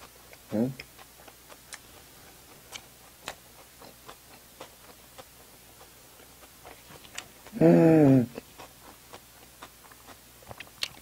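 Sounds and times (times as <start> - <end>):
chewing soft bread: 0.0 - 11.0.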